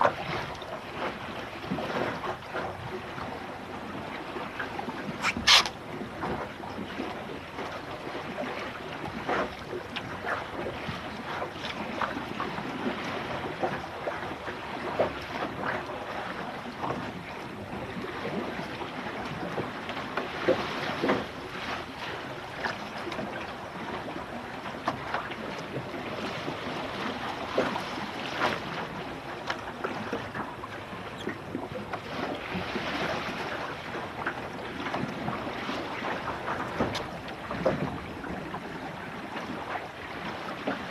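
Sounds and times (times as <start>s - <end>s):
water splashing against hull: 0.0s - 40.9s.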